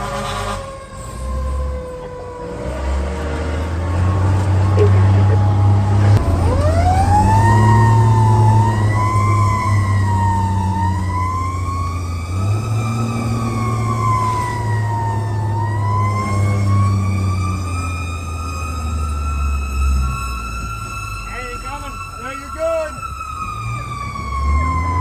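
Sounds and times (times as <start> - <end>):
fire engine siren wailing: 0.0 - 25.0
fire truck engine running: 0.0 - 25.0.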